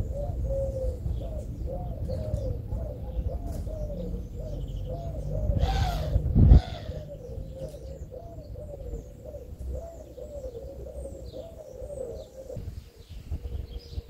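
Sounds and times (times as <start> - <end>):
pigeon cooing: 0.0 - 14.0
small birds chirping: 0.0 - 14.0.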